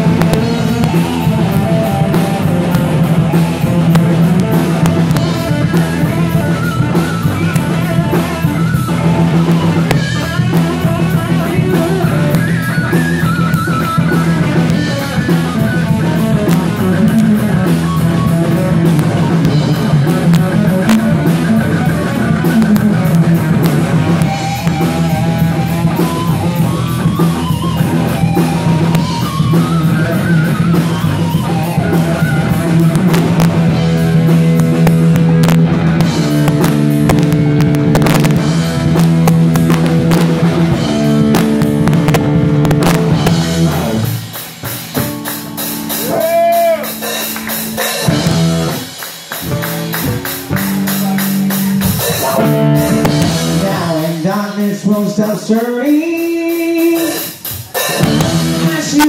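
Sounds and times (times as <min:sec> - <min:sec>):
electric guitar lead lines: 0:00.0 - 0:59.0
live rock band playing: 0:00.0 - 0:59.0.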